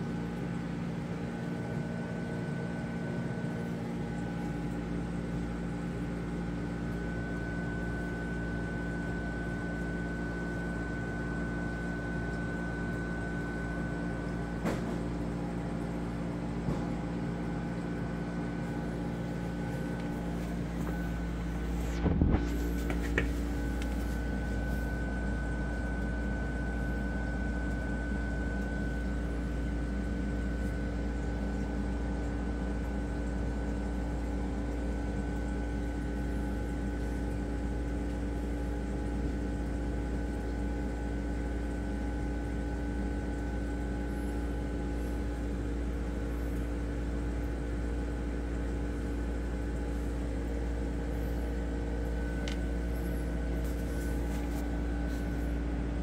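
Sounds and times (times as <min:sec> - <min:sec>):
aquarium pumps humming: 0:00.0 - 0:56.0.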